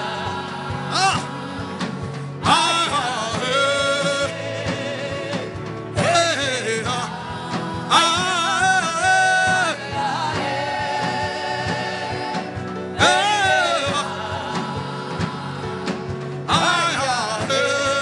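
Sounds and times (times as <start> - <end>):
person singing: 0.0 - 18.0
steady beat: 0.0 - 18.0.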